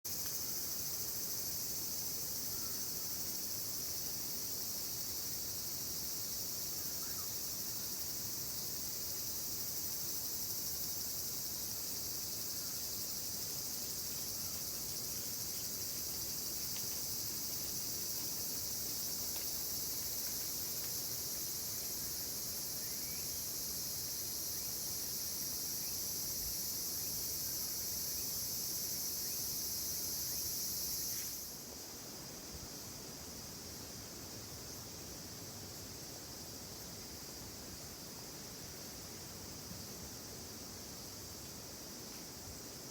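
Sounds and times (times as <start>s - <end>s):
insects buzzing: 0.1s - 42.9s.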